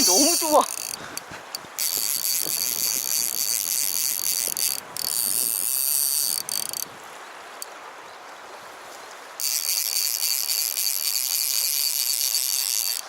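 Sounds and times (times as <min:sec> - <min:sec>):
fly reel drag buzzing: 0:00.0 - 0:06.9, 0:09.4 - 0:13.0.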